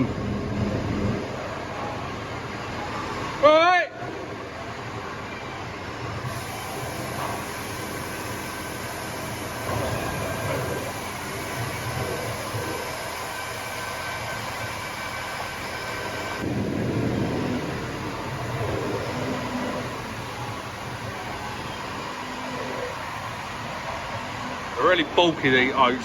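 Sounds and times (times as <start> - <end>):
diesel engine running: 0.0 - 26.0
faint whine: 0.0 - 26.0.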